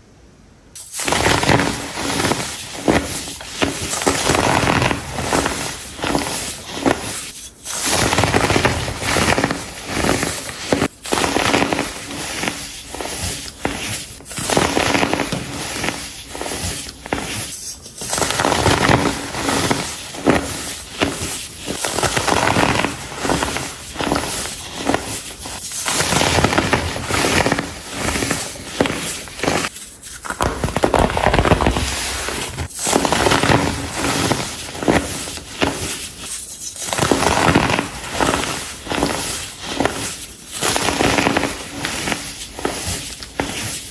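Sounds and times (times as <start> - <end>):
baking soda blocks crunching: 0.8 - 43.9.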